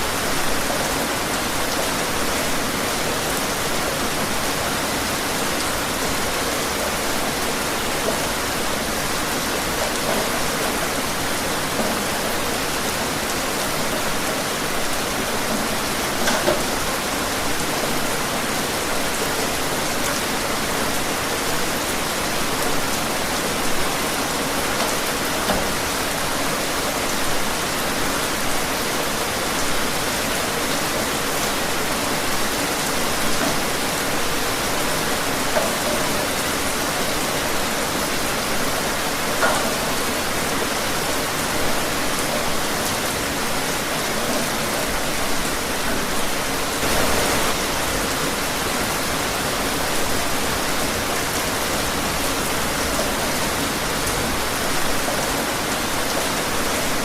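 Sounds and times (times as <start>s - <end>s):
steady rain hiss: 0.0s - 57.0s
raindrops tapping on surfaces: 4.8s - 18.4s, 19.0s - 28.7s, 30.4s - 57.0s.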